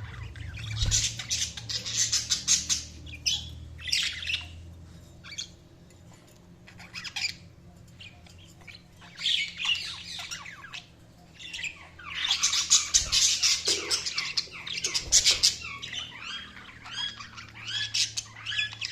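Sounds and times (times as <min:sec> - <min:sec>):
budgerigars chirping and chattering: 0:00.0 - 0:18.9.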